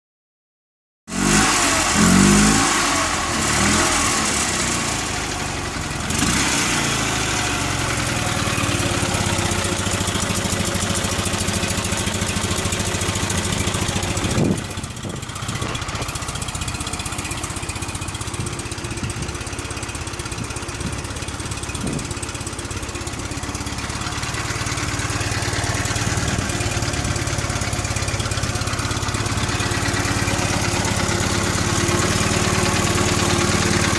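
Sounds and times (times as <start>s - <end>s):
car engine revving and idling: 1.1s - 33.9s.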